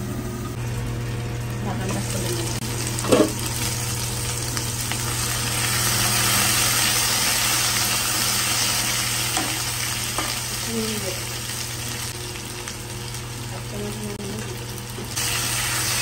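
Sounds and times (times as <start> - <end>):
potatoes sizzling in hot oil: 1.9 - 16.0.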